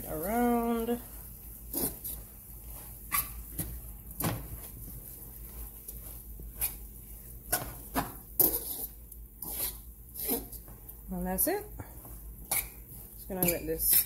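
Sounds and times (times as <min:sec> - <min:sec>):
spoon stirring food in metal pot: 0:01.6 - 0:11.0, 0:11.9 - 0:14.0.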